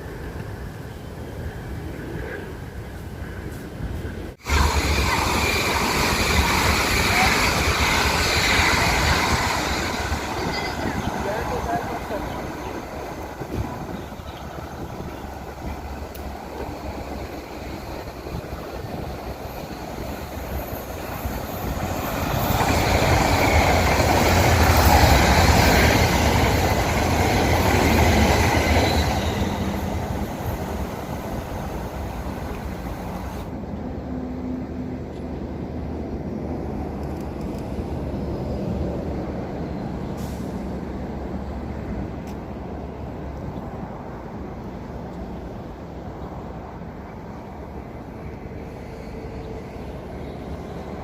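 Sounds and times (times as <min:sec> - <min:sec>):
train passing: 0:00.0 - 0:51.0.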